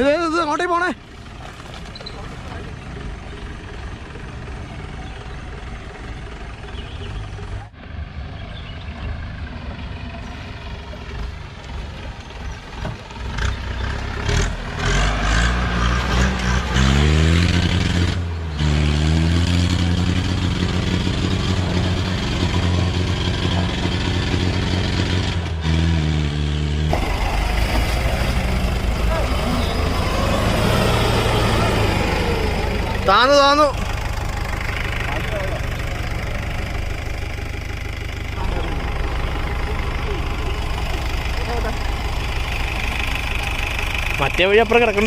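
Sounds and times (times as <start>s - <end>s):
off-road engine revving: 0.0s - 45.0s.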